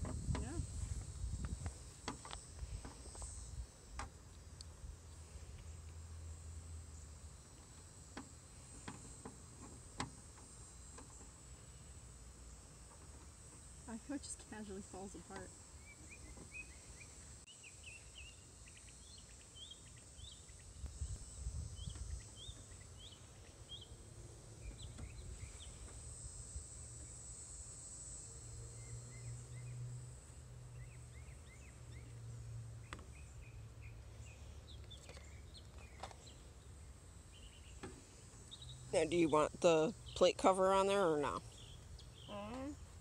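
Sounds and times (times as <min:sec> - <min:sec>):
high insect drone: 0:00.0 - 0:43.0.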